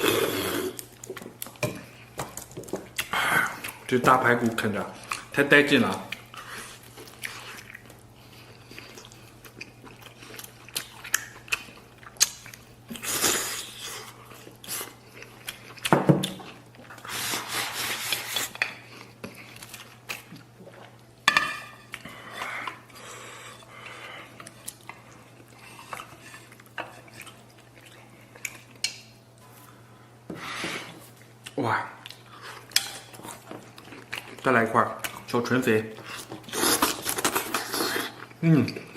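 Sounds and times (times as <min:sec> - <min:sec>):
person chewing meat: 0:00.0 - 0:04.0, 0:05.0 - 0:17.3, 0:18.0 - 0:21.2, 0:21.8 - 0:29.4, 0:31.0 - 0:38.9.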